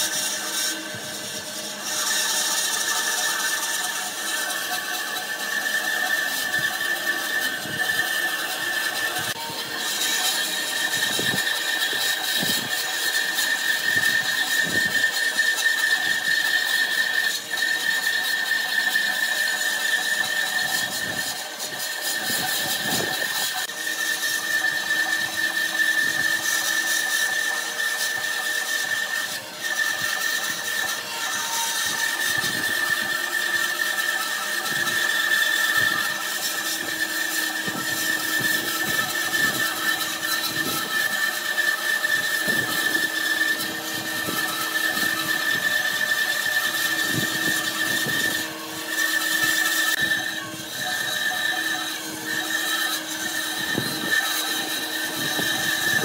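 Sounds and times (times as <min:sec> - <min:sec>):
bandsaw cutting wood: 0:00.0 - 0:56.0.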